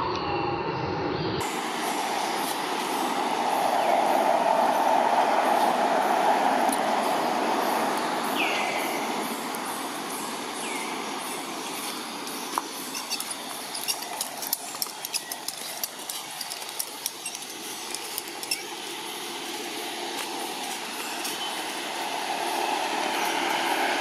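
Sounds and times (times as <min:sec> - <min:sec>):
passing road traffic rushing: 0:01.4 - 0:24.0.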